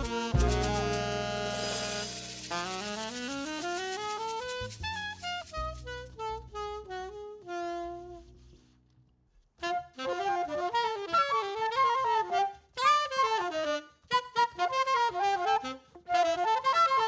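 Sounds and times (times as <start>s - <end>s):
jazz saxophone playing: 0.0s - 8.6s, 9.6s - 17.0s.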